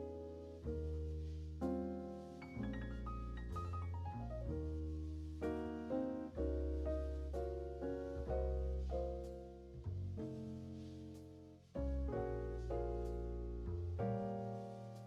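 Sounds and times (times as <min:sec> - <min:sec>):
deep bass notes: 0:00.0 - 0:15.0
piano chords: 0:00.0 - 0:15.0.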